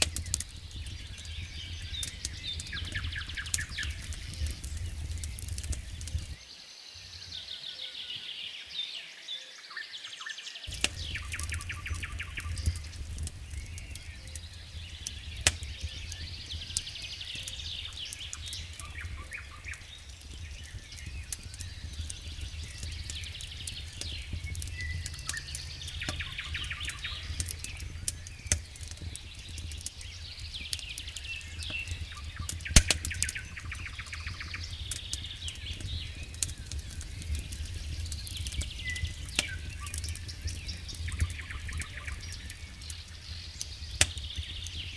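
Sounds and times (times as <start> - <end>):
low rumble: 0.0 - 6.4, 10.7 - 44.9
wood fire crackling and popping: 0.0 - 6.4, 10.7 - 44.9
small birds trilling: 0.0 - 44.9.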